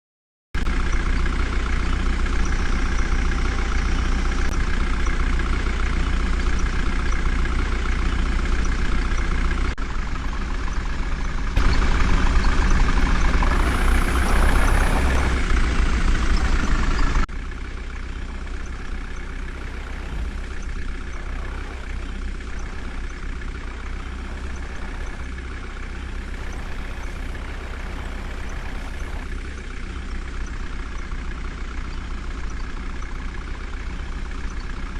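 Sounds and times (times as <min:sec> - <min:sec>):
diesel engine rumbling: 0:00.6 - 0:34.9.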